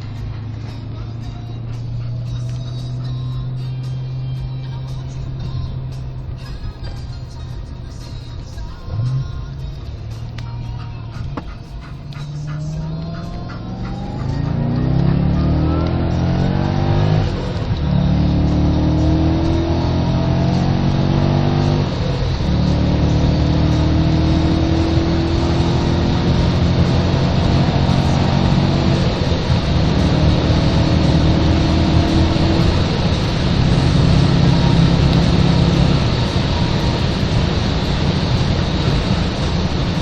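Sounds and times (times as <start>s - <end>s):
car engine accelerating hard: 0.0s - 40.0s
gear upshifts: 0.0s - 40.0s.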